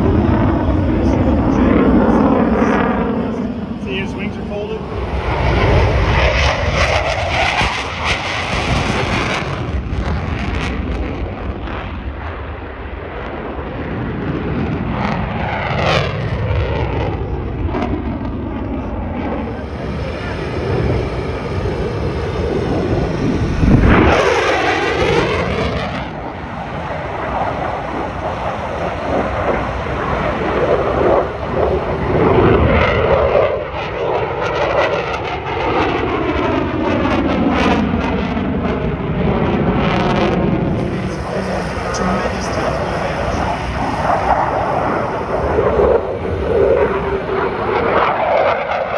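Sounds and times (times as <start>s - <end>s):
fighter jet engines roaring: 0.0s - 48.9s.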